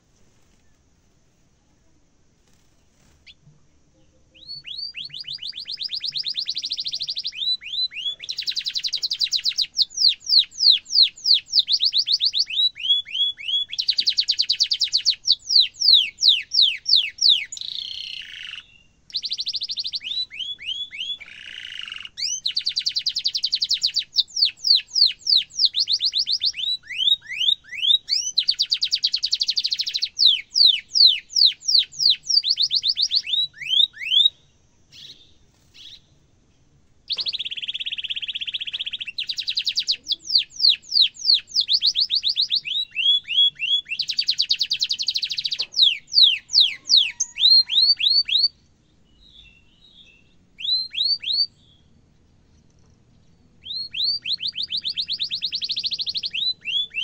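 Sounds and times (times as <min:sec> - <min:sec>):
canary singing: 0:02.5 - 0:36.2, 0:37.1 - 0:57.0.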